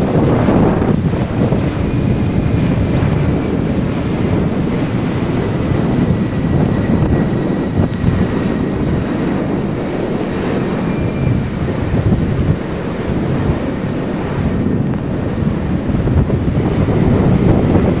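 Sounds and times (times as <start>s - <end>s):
high engine whine: 0.0s - 18.0s
jet engine climbing overhead: 0.0s - 18.0s
wind buffeting microphone: 0.0s - 18.0s.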